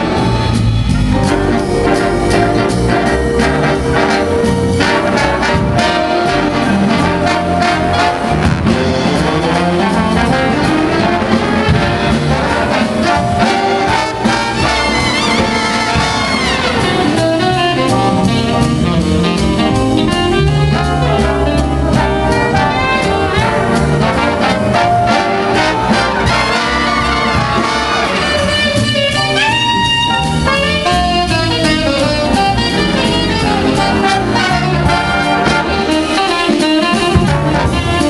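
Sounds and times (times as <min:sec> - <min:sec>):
big band playing swing: 0:00.0 - 0:38.0.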